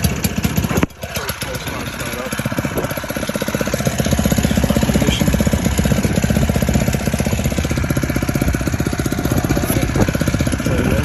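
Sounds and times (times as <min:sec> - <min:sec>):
outboard motor putt-putt: 0:00.0 - 0:11.0.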